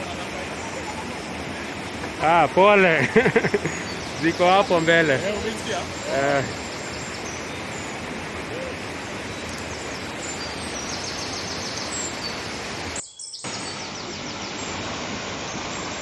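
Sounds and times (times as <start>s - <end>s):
birds chirping and trilling: 0.0s - 16.0s
river water rushing: 0.0s - 16.0s.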